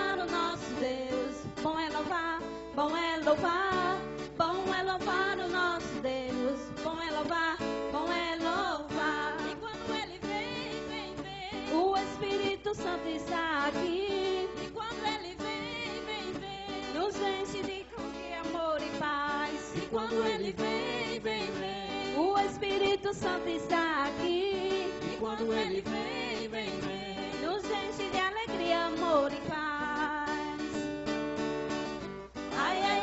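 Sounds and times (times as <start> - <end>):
women singing into microphones: 0.0 - 30.8, 32.5 - 33.0
strummed acoustic guitar: 0.0 - 33.0.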